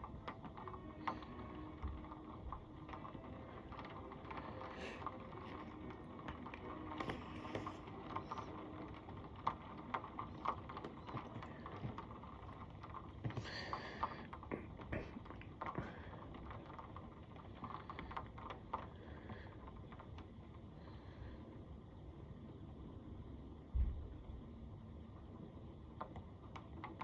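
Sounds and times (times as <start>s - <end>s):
raindrops tapping close by: 0.0s - 21.5s, 25.1s - 27.0s
steady rain: 0.0s - 27.0s.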